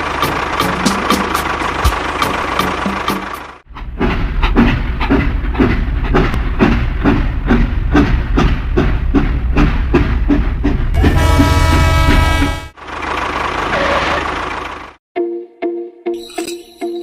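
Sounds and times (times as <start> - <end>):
slow engine chugging: 0.0 - 15.0.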